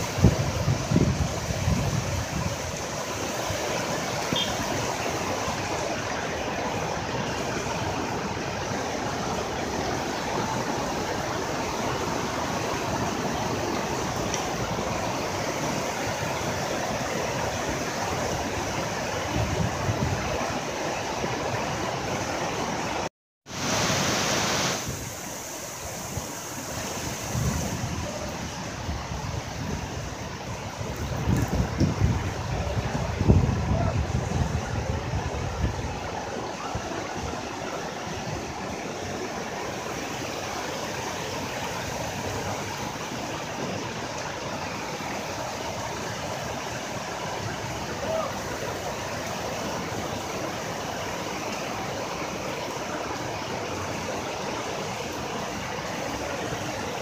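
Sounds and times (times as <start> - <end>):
floodwater rushing down street: 0.0 - 57.0
heavy rain: 0.0 - 57.0.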